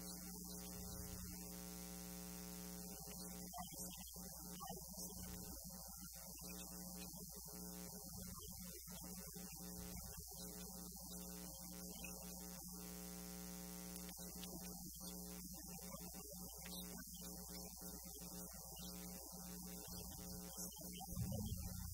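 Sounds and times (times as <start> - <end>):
electrical hum: 0.0 - 21.9.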